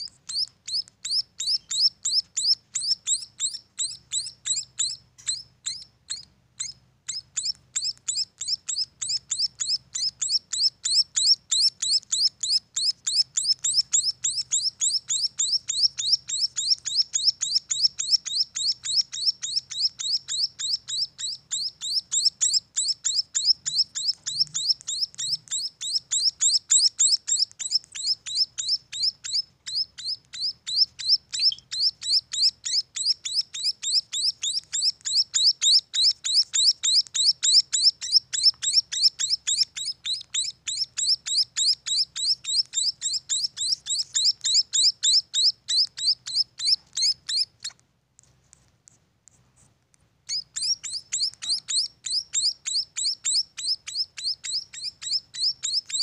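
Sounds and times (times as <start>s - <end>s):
young finches chirping: 0.0s - 47.8s, 50.3s - 56.0s.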